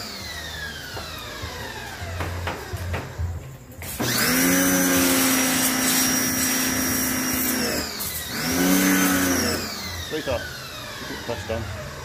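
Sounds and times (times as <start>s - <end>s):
pressure washer motor and pump: 0.0s - 3.2s, 3.8s - 12.0s.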